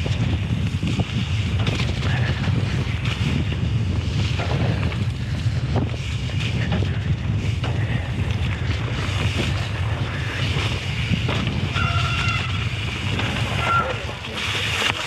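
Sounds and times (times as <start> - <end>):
bike knocks and rattles: 0.0 - 15.0
bike tyre noise: 0.0 - 15.0
wind rushing over microphone: 0.0 - 15.0.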